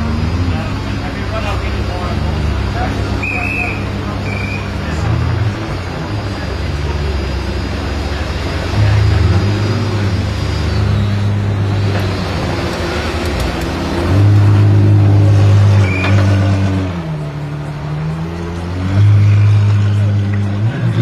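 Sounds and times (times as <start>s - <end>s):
car engine at low revs: 0.0s - 21.0s.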